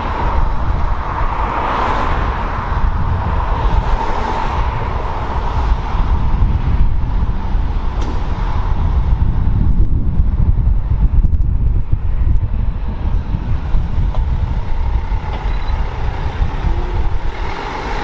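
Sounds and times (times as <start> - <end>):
truck engine low rumble: 0.0 - 18.0.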